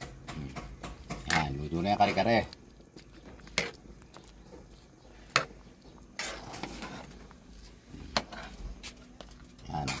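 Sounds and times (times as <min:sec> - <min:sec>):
stew stirring noise: 0:00.0 - 0:10.0.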